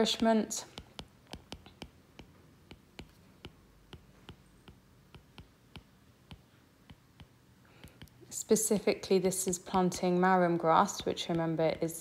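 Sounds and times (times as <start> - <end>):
stylus tapping glass screen: 0.0 - 10.0.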